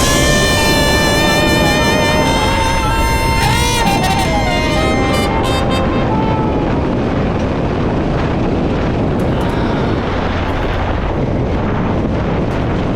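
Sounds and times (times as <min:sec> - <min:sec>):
wind rushing on microphone: 0:00.0 - 0:12.9.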